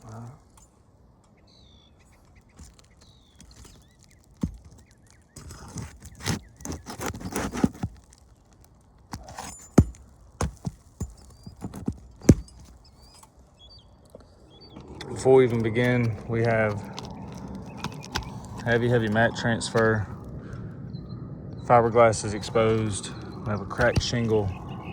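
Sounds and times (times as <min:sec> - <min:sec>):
scraping under shingles: 0:00.0 - 0:20.7, 0:21.6 - 0:24.9.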